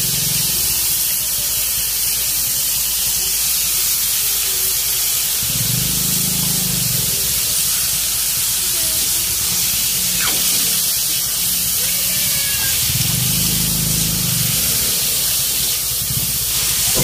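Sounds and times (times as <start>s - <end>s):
meat and onions sizzling in wok: 0.0s - 17.0s.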